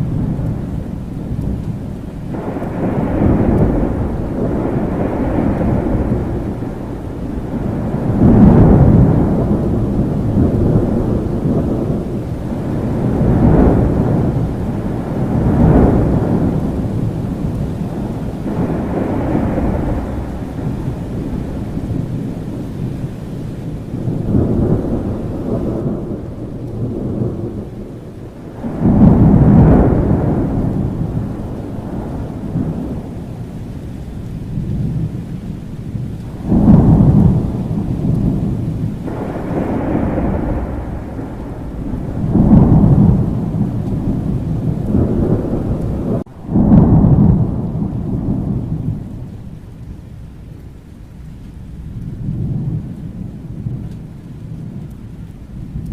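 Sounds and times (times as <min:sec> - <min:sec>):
rolling thunder: 0:00.0 - 0:55.9
steady rain: 0:00.0 - 0:55.9.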